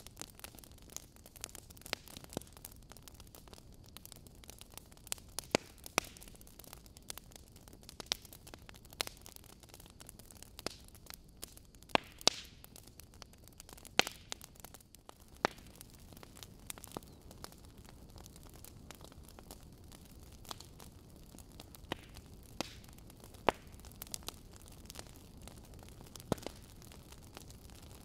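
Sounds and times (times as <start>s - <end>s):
log fire crackling: 0.0s - 28.0s.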